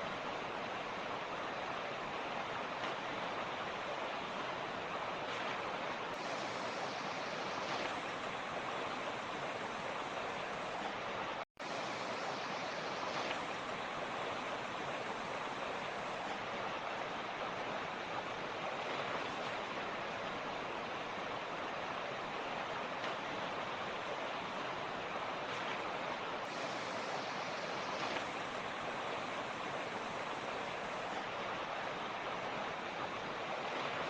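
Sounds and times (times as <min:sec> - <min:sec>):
creek rushing: 0:00.0 - 0:34.0.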